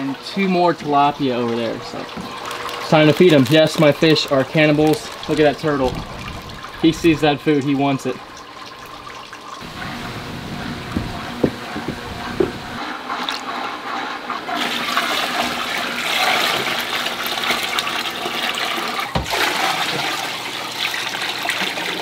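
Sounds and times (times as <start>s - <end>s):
water pouring into tank: 2.4s - 13.6s, 14.5s - 22.0s.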